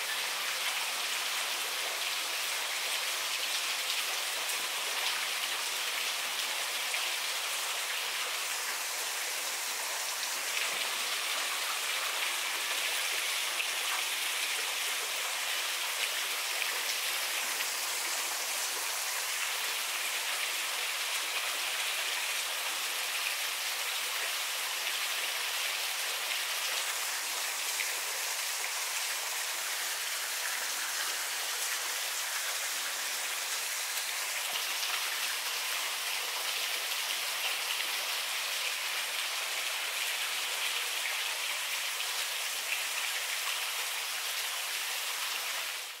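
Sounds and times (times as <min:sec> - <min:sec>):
running water hiss: 0:00.0 - 0:46.0.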